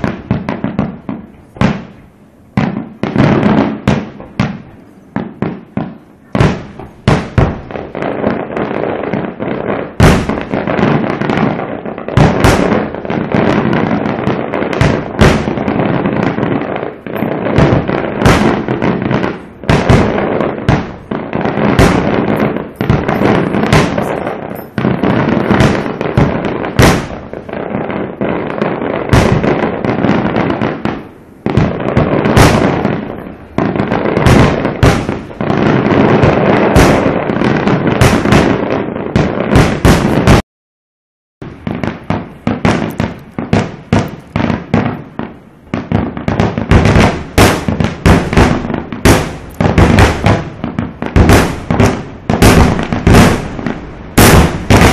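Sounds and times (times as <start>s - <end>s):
fireworks booming and crackling: 0.0s - 40.4s, 41.4s - 54.9s.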